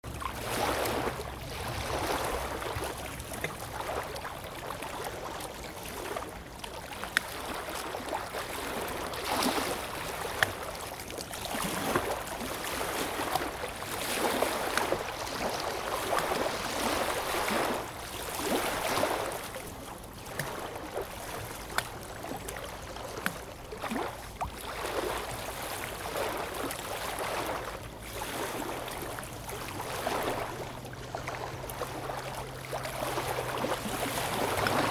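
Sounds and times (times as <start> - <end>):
lake waves lapping on shore: 0.0 - 34.9.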